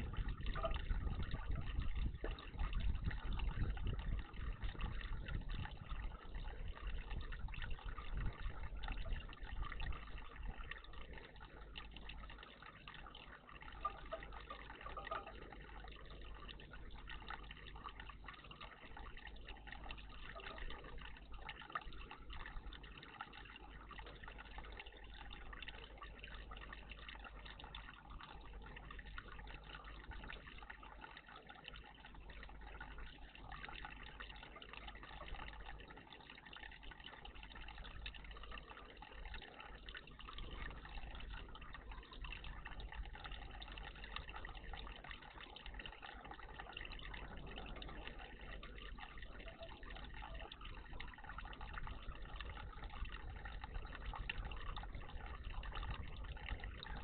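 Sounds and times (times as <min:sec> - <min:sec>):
water splashing in bird bath: 0:00.0 - 0:57.0.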